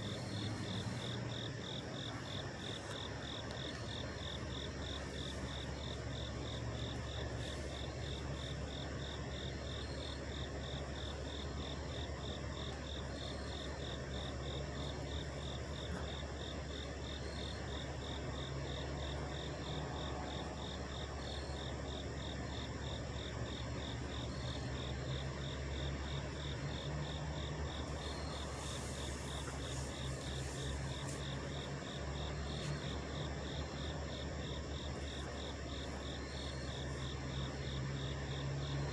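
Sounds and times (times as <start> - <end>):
insects chirping: 0.0 - 38.9
trucks idling: 0.0 - 38.9.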